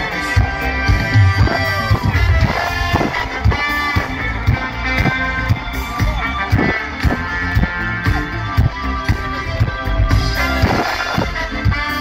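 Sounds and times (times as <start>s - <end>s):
steady drum beat: 0.0s - 12.0s
strummed guitars: 0.0s - 12.0s.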